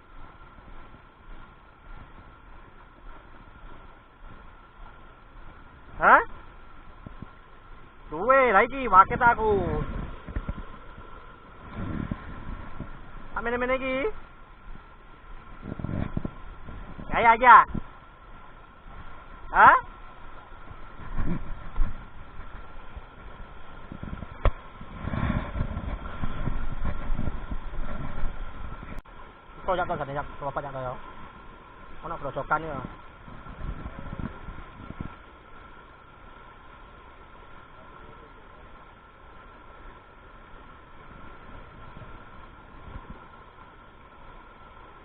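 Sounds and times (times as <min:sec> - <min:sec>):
water rushing over rocks: 0:00.0 - 0:45.0.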